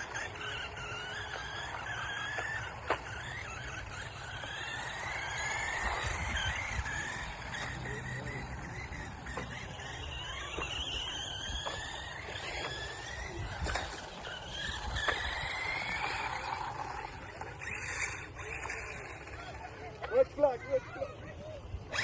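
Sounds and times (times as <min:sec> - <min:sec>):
outdoor background noise: 0:00.0 - 0:22.0
radio-controlled car motors whining: 0:00.0 - 0:22.0.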